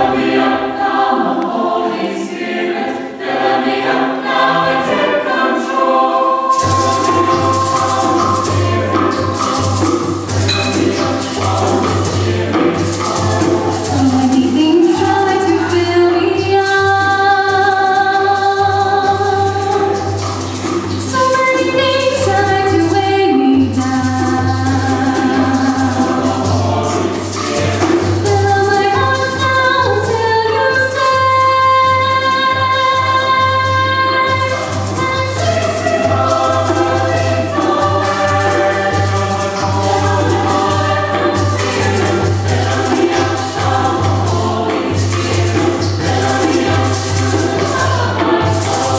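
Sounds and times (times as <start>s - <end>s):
choir singing: 0.0s - 48.9s
percussion beat: 6.5s - 48.9s.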